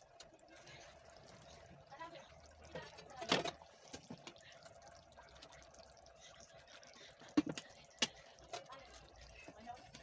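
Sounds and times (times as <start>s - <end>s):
faint steady hum: 0.0s - 10.0s
stew bubbling in a pot: 0.0s - 10.0s.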